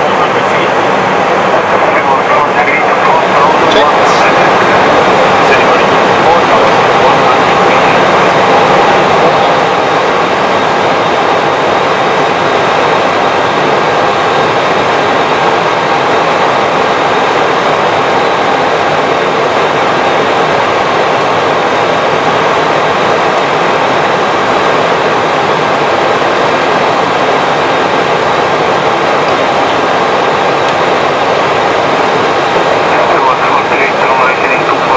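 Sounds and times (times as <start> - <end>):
rushing air and engines: 0.0 - 34.9.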